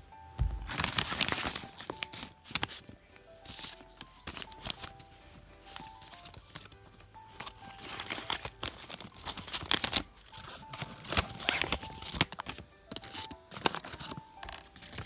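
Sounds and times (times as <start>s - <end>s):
quiet background music: 0.0s - 15.0s
packaging crinkling and tearing: 0.6s - 15.0s.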